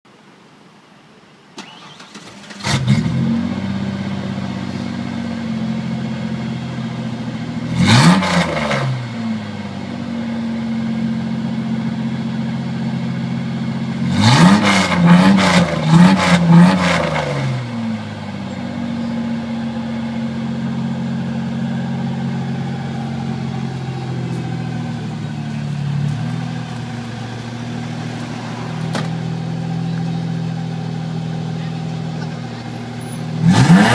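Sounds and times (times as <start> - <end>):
truck engine idling and revving: 1.8 - 33.9.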